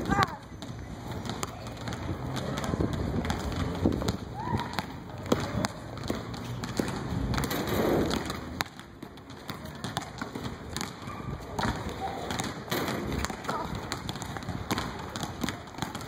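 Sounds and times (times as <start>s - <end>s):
basketballs bouncing on concrete: 0.0s - 16.0s.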